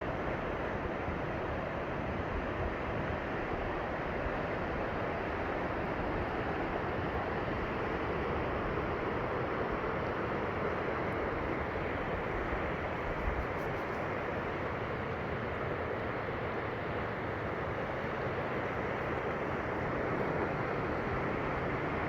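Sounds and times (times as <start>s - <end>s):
rushing water: 0.1s - 22.0s.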